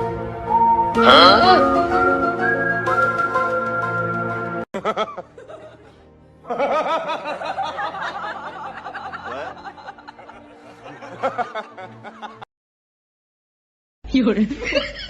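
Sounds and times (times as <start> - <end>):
music: 0.0 - 12.5.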